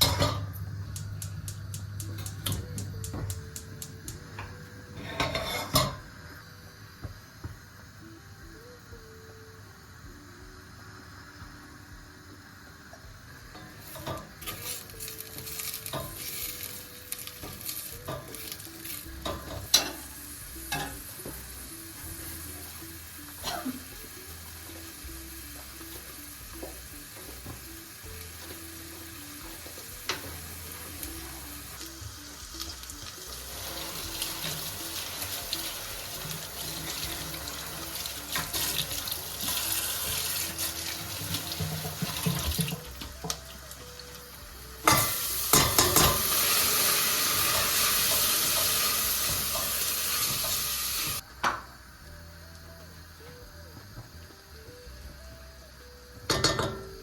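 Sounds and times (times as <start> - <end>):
soft background music: 0.0 - 57.0
steady hiss: 5.8 - 53.5.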